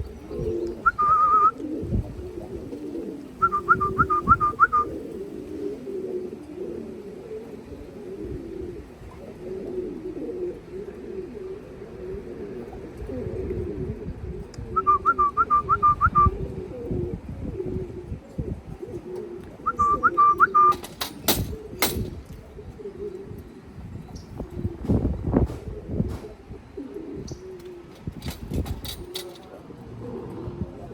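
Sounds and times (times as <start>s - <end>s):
pigeons cooing: 0.0s - 30.9s.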